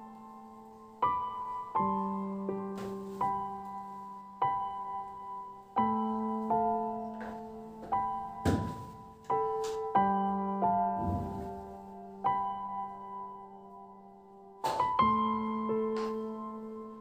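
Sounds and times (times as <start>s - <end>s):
gentle solo piano piece: 0.0s - 17.0s.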